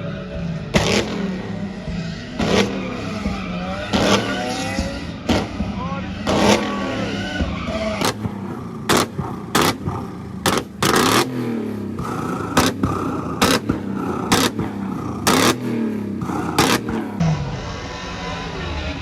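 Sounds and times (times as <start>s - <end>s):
car engine revving: 0.0s - 19.0s
exhaust pops and bangs: 0.7s - 17.2s.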